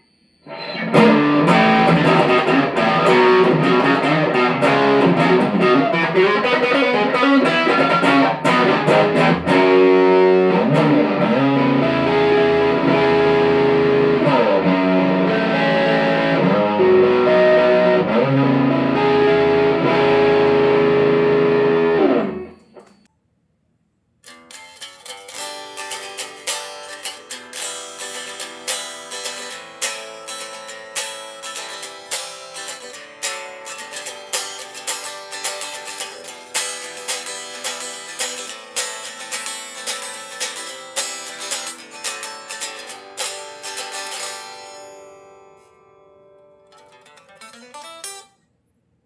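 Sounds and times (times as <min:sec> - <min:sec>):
overdriven electric guitar: 0:00.4 - 0:23.1, 0:24.2 - 0:48.3.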